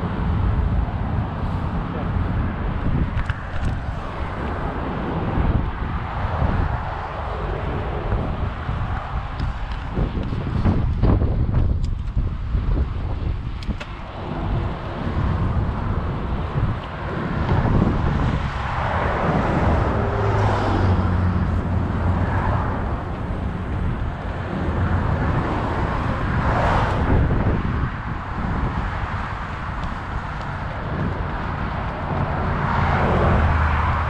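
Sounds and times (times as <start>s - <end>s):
road traffic engine hum: 0.0s - 34.0s
vehicles passing: 0.0s - 34.0s
wind buffeting microphone: 0.0s - 34.0s.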